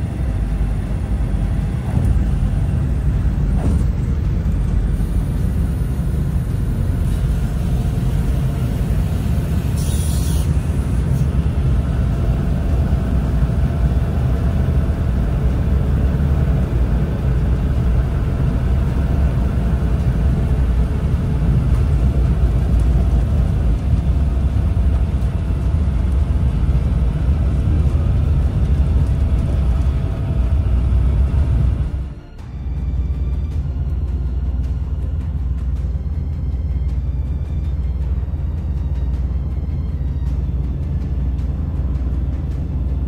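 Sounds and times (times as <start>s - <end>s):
aircraft engines rumbling: 0.0s - 43.0s.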